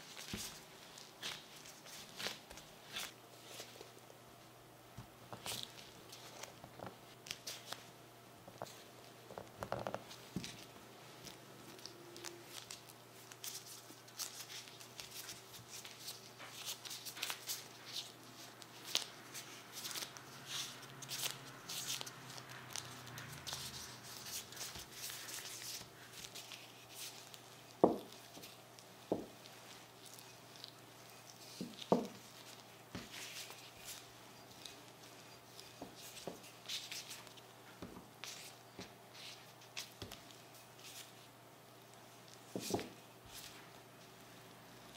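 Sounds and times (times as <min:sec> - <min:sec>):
plastic gloves crinkling: 0:00.0 - 0:04.1, 0:05.2 - 0:44.9.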